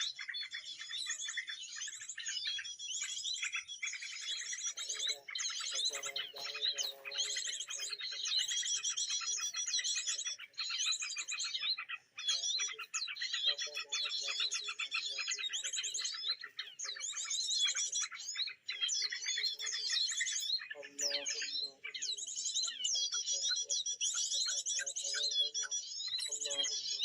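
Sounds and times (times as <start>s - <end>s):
bird chirping and trills: 0.0s - 27.0s.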